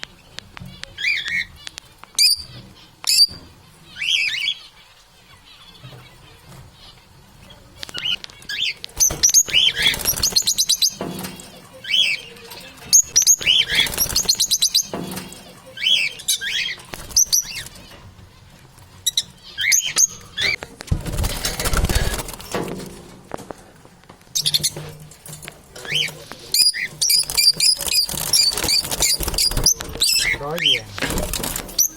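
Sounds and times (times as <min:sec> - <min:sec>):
parrots chirping: 0:00.8 - 0:22.6, 0:24.3 - 0:25.1, 0:25.7 - 0:31.9.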